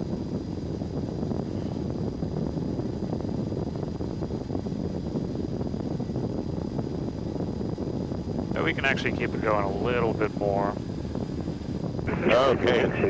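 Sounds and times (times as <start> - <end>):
airplane engine droning: 0.0 - 13.0
faint high whine: 0.0 - 13.0.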